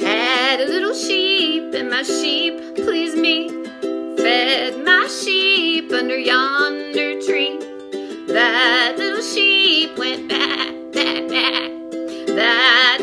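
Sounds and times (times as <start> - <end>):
strummed ukulele: 0.0 - 13.0
woman singing: 0.0 - 13.0.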